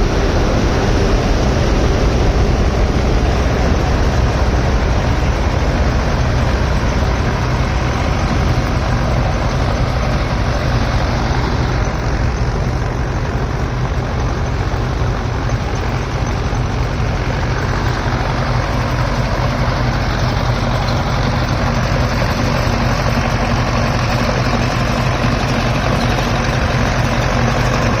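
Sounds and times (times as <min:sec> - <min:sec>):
dense mechanical clatter: 0:00.0 - 0:28.0
diesel farm machinery running: 0:00.0 - 0:28.0.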